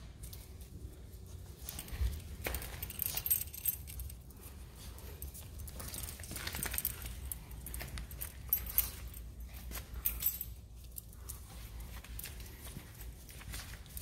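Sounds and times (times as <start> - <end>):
dog claws clicking on tiles: 1.6 - 14.0.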